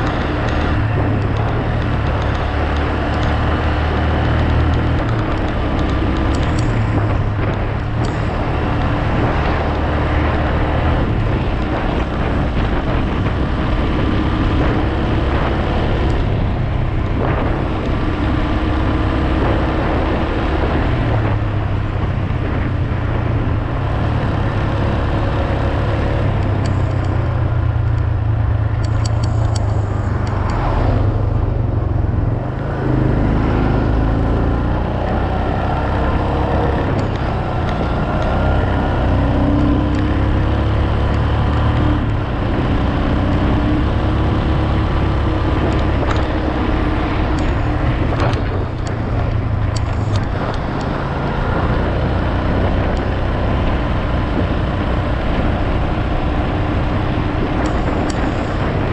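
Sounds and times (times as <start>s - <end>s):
road and wind noise: 0.0s - 58.9s.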